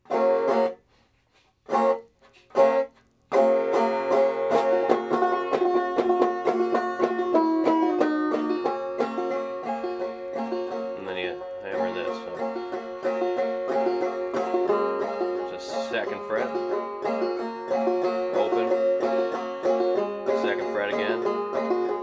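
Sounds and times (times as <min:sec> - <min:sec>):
banjo picked melody: 0:00.0 - 0:22.0
banjo strums: 0:00.0 - 0:22.0.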